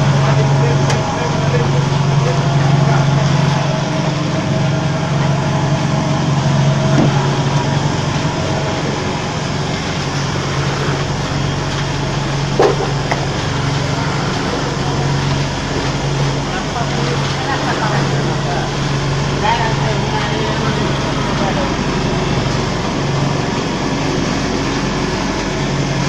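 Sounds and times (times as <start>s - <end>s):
vibrator table humming: 0.0s - 26.0s.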